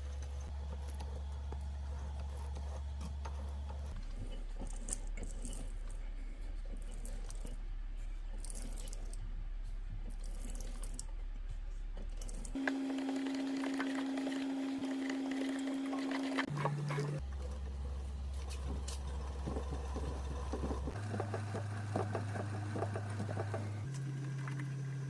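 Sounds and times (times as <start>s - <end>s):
lathe low hum: 0.0s - 25.0s.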